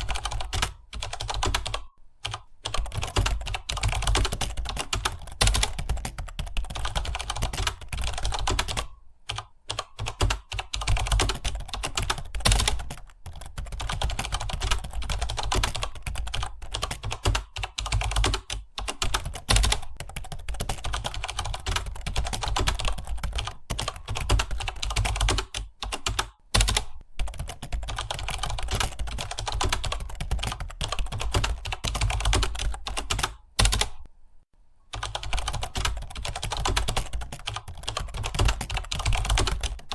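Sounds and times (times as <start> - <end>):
rapid keyboard typing: 0.0 - 34.1, 34.9 - 39.9.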